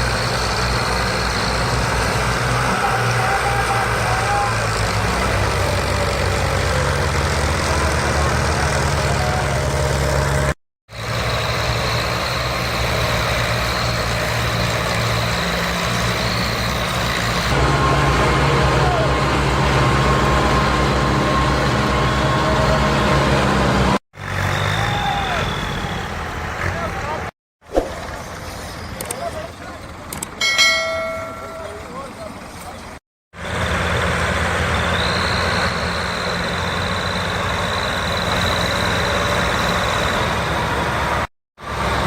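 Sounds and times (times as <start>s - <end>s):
tractor diesel engines under load: 0.0s - 27.3s, 27.9s - 42.0s.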